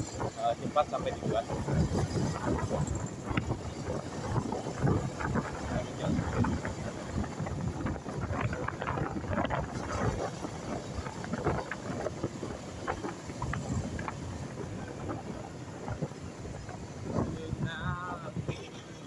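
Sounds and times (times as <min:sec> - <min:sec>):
tyres on road: 0:00.0 - 0:19.0
wind buffeting microphone: 0:00.0 - 0:19.0.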